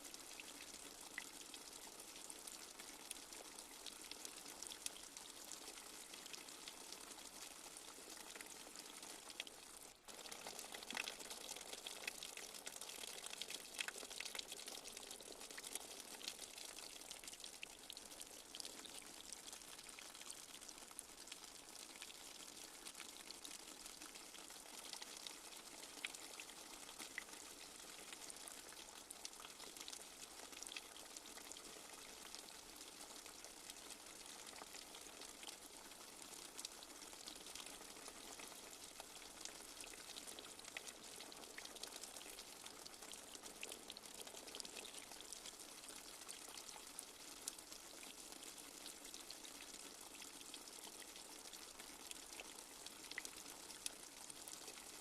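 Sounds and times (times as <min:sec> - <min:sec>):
light steady rain: 0:00.0 - 0:55.0
small drip ticks: 0:00.0 - 0:55.0.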